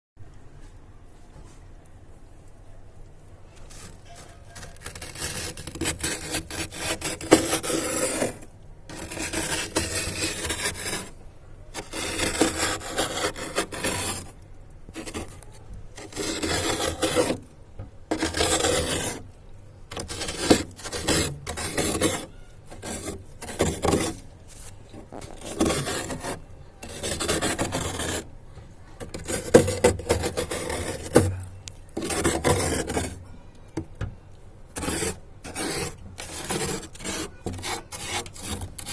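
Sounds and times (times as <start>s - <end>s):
ice being scraped: 3.7s - 11.2s, 11.8s - 17.5s, 18.1s - 28.3s, 29.0s - 33.2s, 34.8s - 38.9s.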